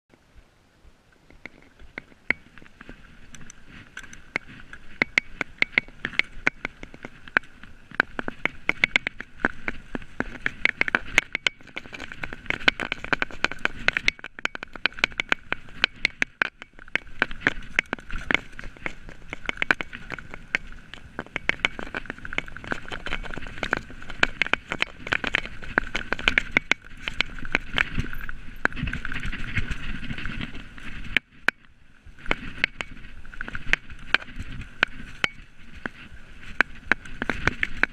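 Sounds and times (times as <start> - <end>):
wind noise: 0.1 - 37.9
bike rattling over bumps: 1.3 - 37.9.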